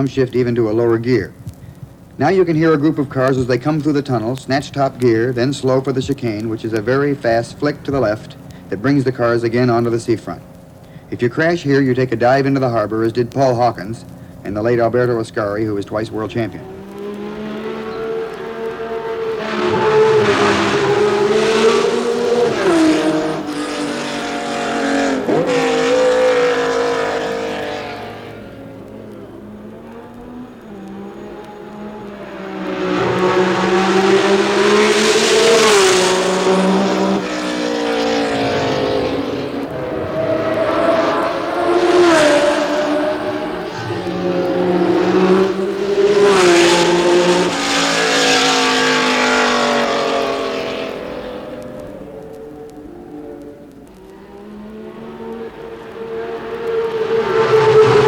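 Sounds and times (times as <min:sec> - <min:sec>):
racing car engines: 0:00.0 - 0:58.0.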